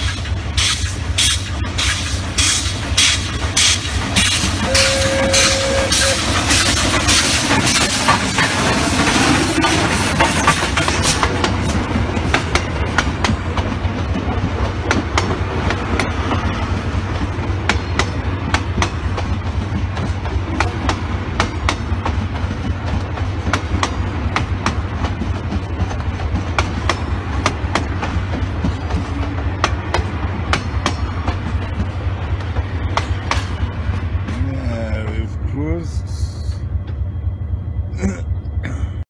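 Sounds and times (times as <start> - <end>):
train wheels clicking over rail joints: 0.0 - 35.5
low train rumble: 0.0 - 39.0.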